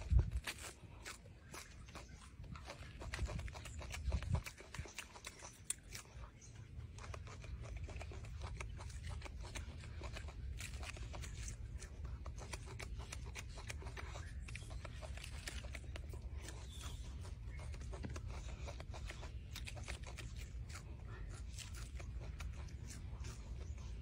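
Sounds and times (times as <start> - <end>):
monkey chewing fruit: 0.0 - 24.0
steady low rumble: 0.0 - 24.0.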